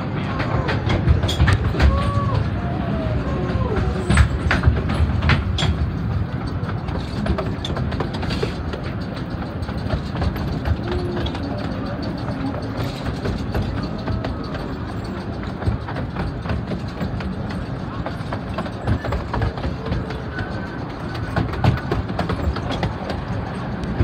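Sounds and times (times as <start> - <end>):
miniature railway carriages rumbling: 0.0 - 24.0
rattle of small clicks: 3.8 - 24.0.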